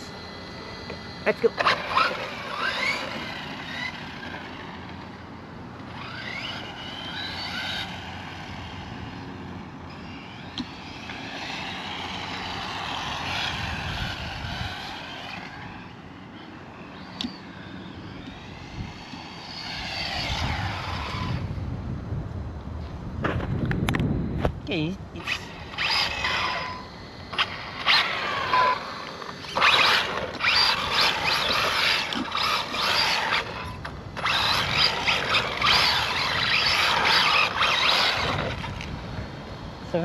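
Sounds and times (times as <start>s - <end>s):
rc car electric motor whining: 0.0s - 21.8s, 25.2s - 40.0s.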